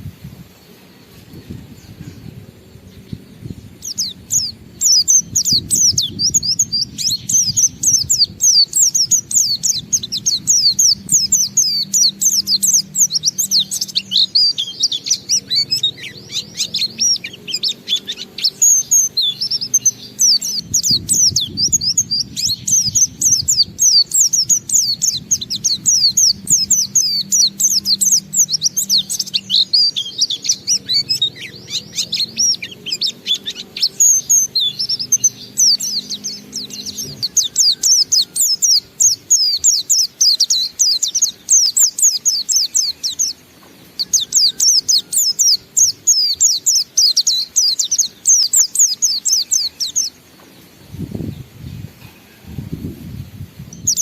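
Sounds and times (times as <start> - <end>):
low steady background noise: 0.0 - 54.0
bird singing high trills: 0.8 - 54.0.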